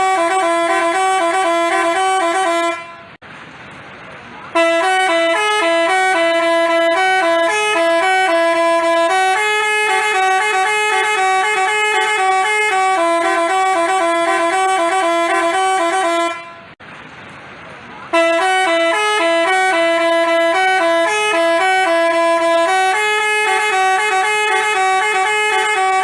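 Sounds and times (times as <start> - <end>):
musical bus horn playing tune: 0.0 - 3.2, 4.5 - 16.8, 18.1 - 26.0.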